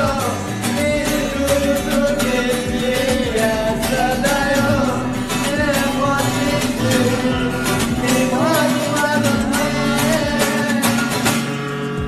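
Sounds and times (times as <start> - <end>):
love song backing music: 0.0 - 12.0.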